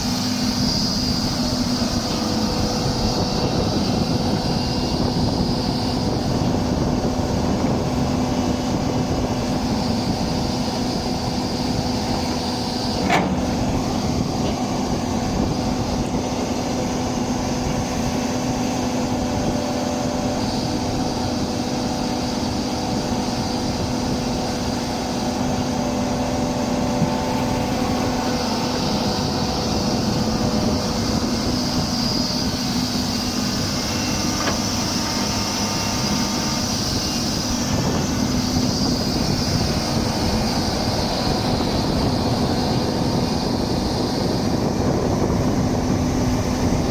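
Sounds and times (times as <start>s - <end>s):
excavator engine humming: 0.0s - 46.9s
high whine: 0.0s - 46.9s.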